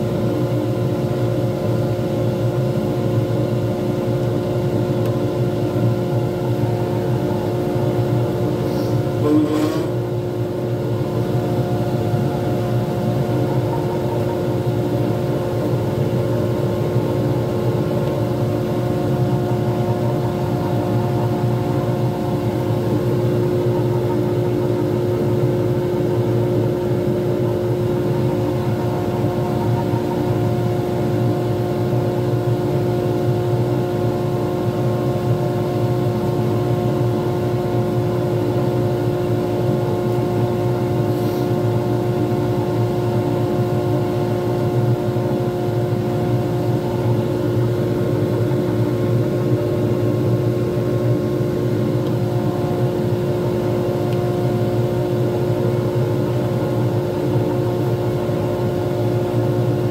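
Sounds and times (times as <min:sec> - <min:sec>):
lathe motor humming with whine: 0:00.0 - 0:59.9.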